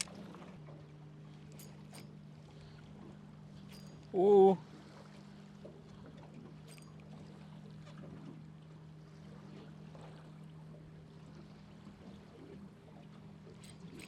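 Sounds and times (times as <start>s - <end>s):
boat motor humming: 0.0s - 14.0s
water against hull: 0.0s - 14.0s.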